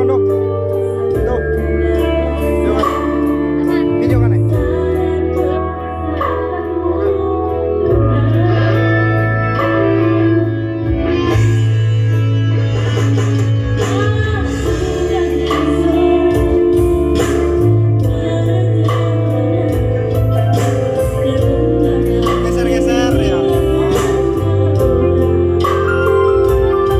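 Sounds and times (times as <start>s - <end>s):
heavy bass line: 0.0s - 6.9s, 7.9s - 26.9s
person singing: 0.0s - 10.5s, 13.8s - 26.9s
electronic keyboard music: 0.0s - 26.9s.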